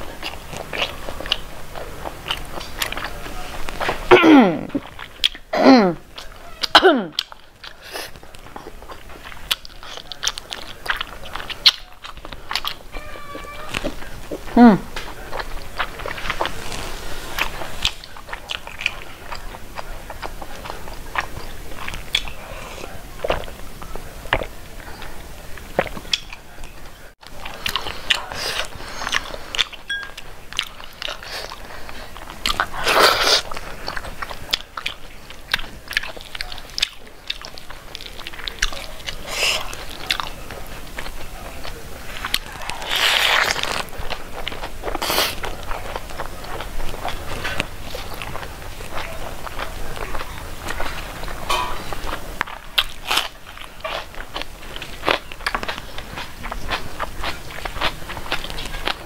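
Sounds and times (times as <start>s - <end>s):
chewing with wet mouth clicks: 0.1s - 4.0s, 6.1s - 16.8s, 17.4s - 59.0s.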